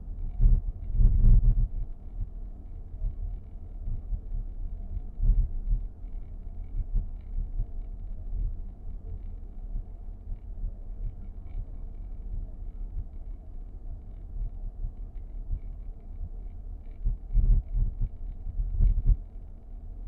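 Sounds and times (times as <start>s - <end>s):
low uneven cabin rumble: 0.0s - 20.0s.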